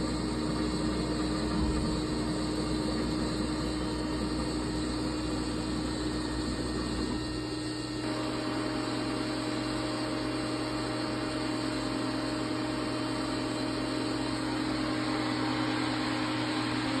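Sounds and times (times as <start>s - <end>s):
machine electrical hum and whir: 0.0s - 17.0s.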